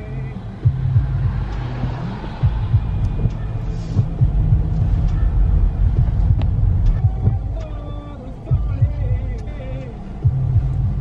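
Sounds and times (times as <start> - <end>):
low thumps: 0.0 - 11.0
road rumble inside car: 0.0 - 11.0.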